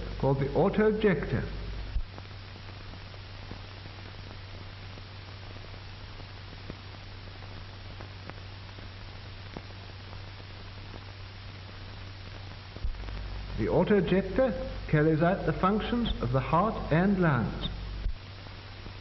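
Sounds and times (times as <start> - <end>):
film soundtrack hiss and hum: 0.0 - 19.0.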